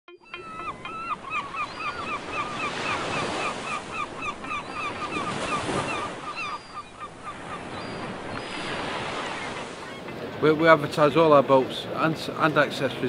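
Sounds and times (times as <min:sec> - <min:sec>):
gulls calling: 0:00.1 - 0:13.0
surf washing in: 0:00.5 - 0:13.0.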